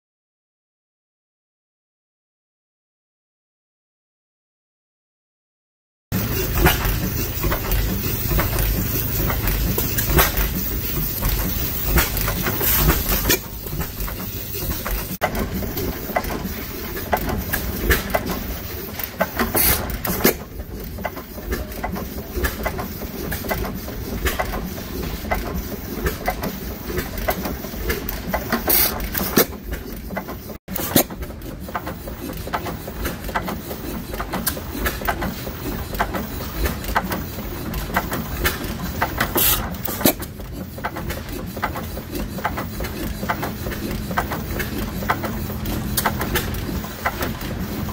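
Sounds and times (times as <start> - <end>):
gas engine knocking and clicking: 6.2 - 47.9.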